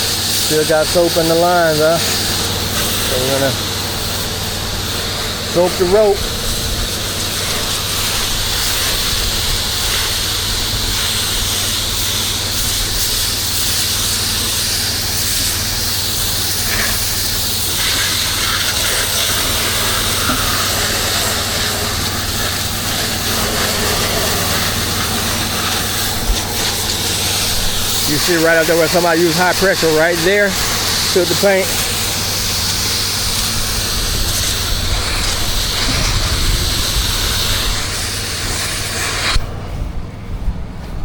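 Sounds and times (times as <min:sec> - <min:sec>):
pressure washer spray hissing: 0:00.0 - 0:39.6
engine and pump humming: 0:00.0 - 0:41.0.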